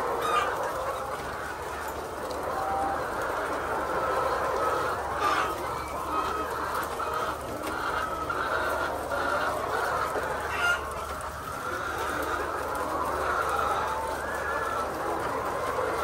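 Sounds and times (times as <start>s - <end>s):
chickens clucking: 0.0s - 16.0s
loud chicken calls: 0.0s - 16.0s.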